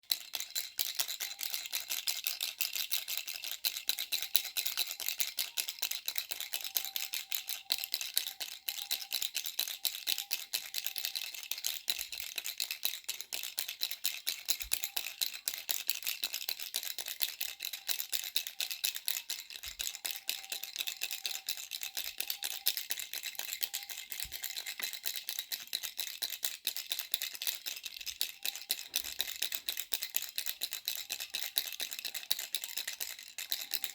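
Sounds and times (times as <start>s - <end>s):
baby rattle shaken: 0.0s - 33.9s.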